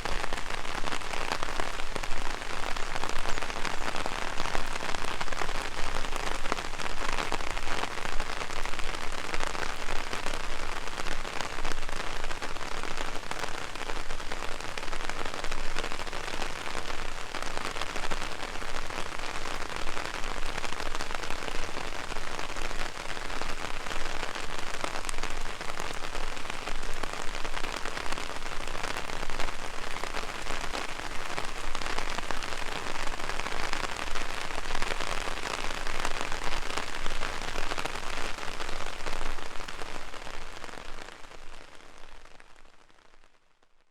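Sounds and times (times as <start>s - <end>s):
heavy rain on an umbrella: 0.0s - 43.9s.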